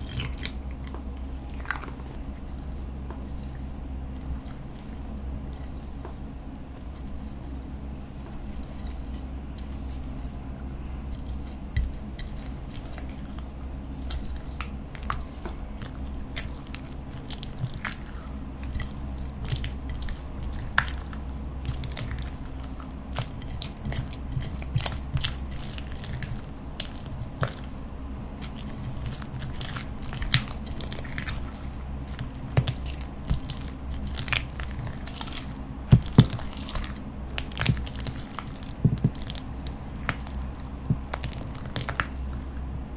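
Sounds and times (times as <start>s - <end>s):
low hum: 0.0s - 42.9s
sticky slime crackles: 8.2s - 42.9s.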